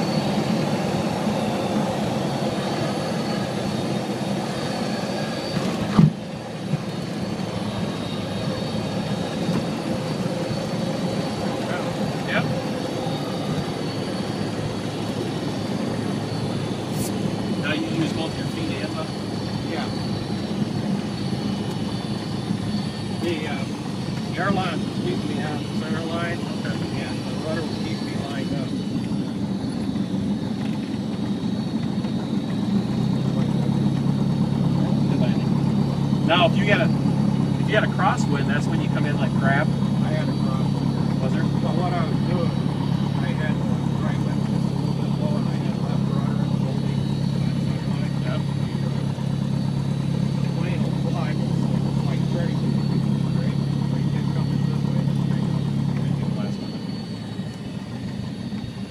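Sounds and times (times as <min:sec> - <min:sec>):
propeller airplane engine droning: 0:00.0 - 0:58.9.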